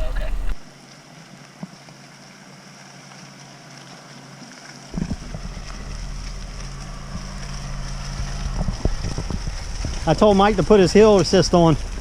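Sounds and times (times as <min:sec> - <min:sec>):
vehicle engine humming: 0:00.0 - 0:00.7, 0:01.9 - 0:12.0.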